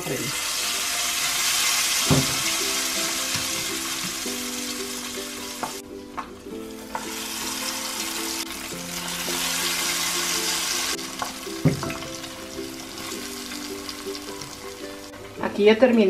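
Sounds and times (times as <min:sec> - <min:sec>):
food sizzling in hot oil: 0:00.0 - 0:05.8, 0:06.4 - 0:15.5.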